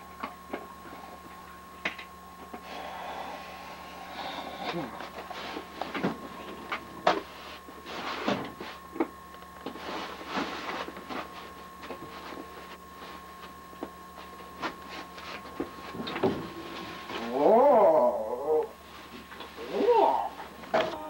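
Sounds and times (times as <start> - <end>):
electrical hum with whine: 0.0 - 21.0.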